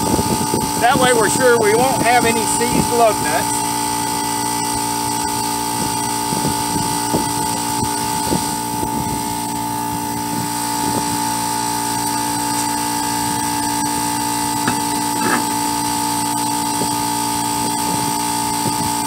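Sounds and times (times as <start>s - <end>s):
mechanical drone with hum: 0.0s - 19.0s.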